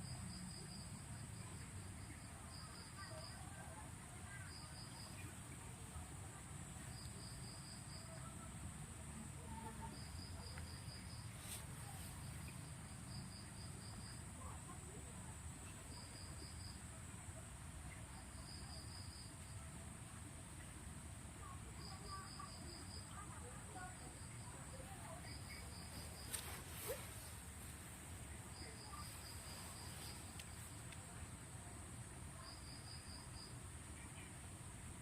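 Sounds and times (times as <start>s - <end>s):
cricket chirping: 0.0s - 5.4s, 6.6s - 8.4s, 9.0s - 20.7s, 21.4s - 34.3s.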